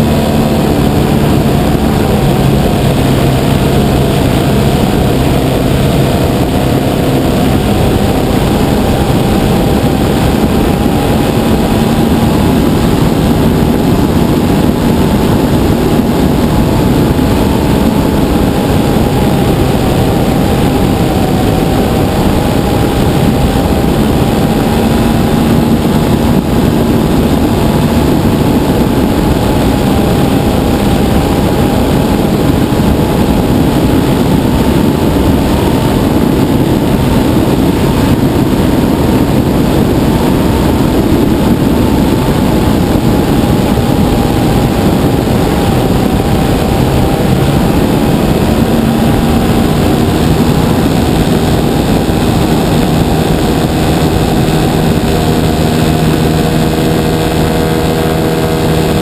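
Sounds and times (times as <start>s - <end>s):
model airplane engine and propeller: 0.0s - 59.0s
wind rush over microphone: 0.0s - 59.0s.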